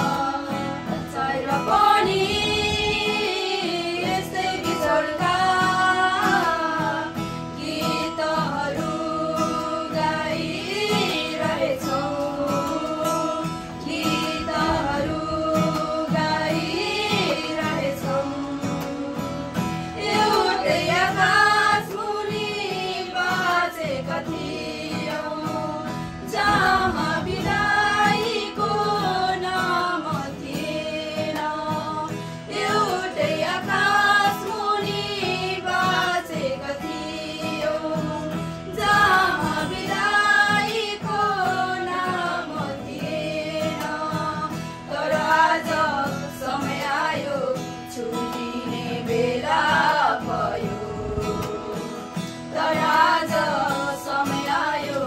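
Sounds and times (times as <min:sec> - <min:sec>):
group of women singing: 0:00.0 - 0:55.0
strummed acoustic guitar: 0:00.0 - 0:55.0.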